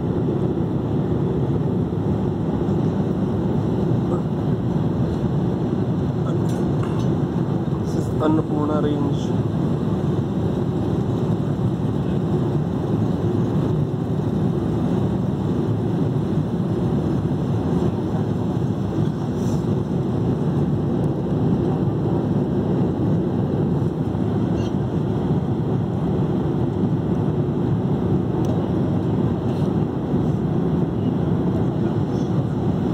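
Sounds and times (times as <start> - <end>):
airliner cabin airflow and engine drone: 0.0 - 32.9.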